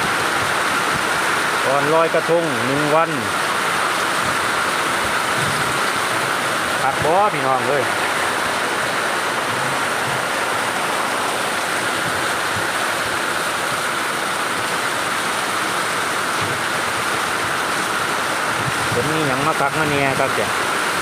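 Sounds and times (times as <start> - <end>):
storm rain and wind rushing: 0.0 - 21.0.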